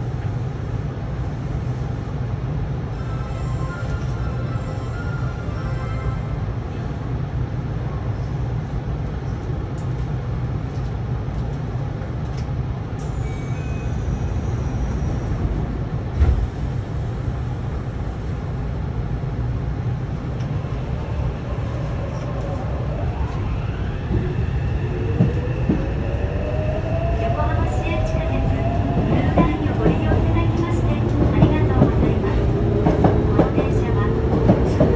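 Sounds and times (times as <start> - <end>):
train wheels rumbling on rail: 6.7 - 34.9.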